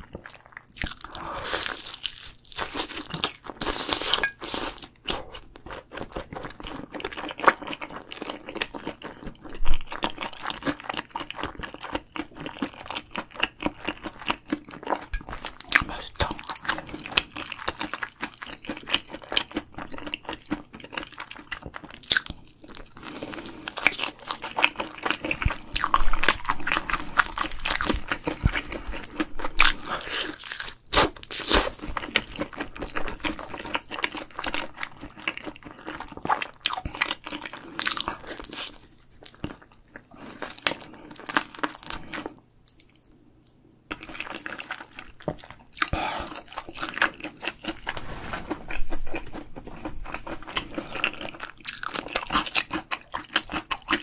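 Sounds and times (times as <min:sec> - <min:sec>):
crunching fried shrimp: 0:00.1 - 0:43.2, 0:43.9 - 0:54.0.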